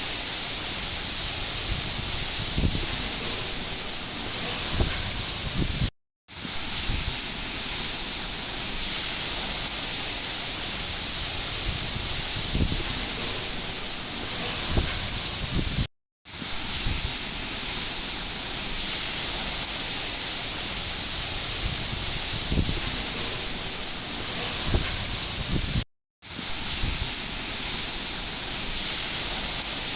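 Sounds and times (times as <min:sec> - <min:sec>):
heavy rain: 0:00.0 - 0:05.8, 0:06.4 - 0:15.8, 0:16.4 - 0:25.8, 0:26.4 - 0:29.9.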